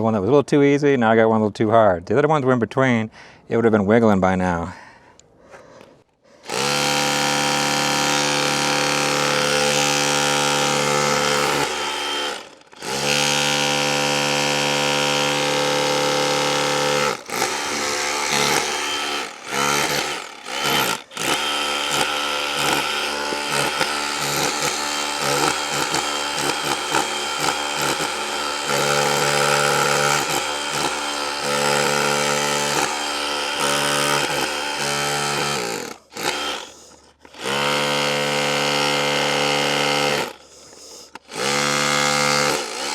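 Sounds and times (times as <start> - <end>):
rotary hammer chiselling wall: 6.5 - 42.9.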